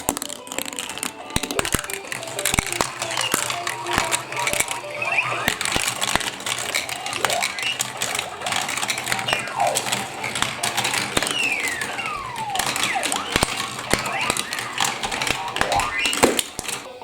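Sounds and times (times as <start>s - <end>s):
marbles clicking against plastic: 0.0s - 17.0s
marbles rolling on plastic: 0.0s - 17.0s.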